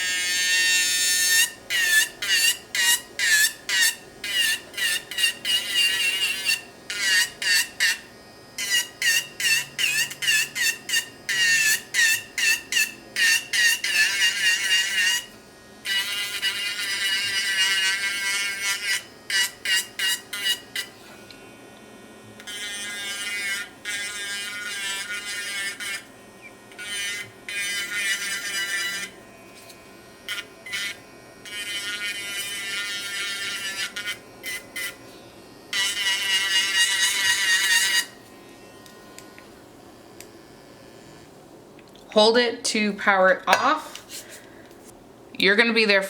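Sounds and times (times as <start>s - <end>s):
electric nail drill whining: 0.0s - 41.3s.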